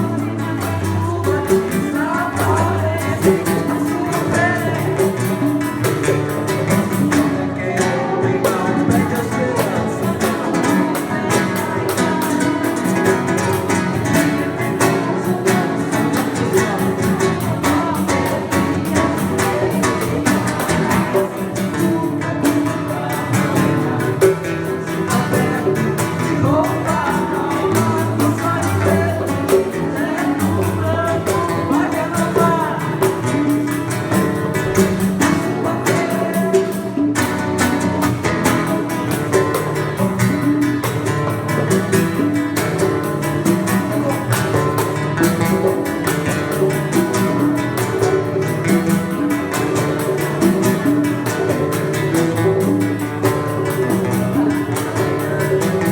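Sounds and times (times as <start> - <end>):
acoustic guitar: 0.0 - 55.9
hand percussion: 0.0 - 55.9
person singing: 0.0 - 55.9.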